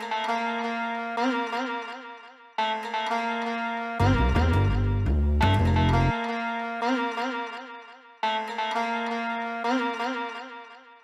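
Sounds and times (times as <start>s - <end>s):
held string notes: 0.0s - 11.0s.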